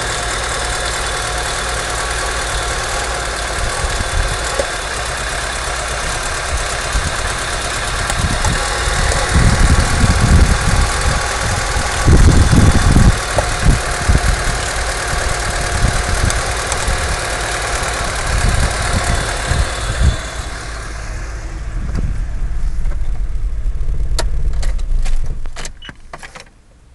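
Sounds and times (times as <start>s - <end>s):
car engine running roughly: 0.0s - 26.3s.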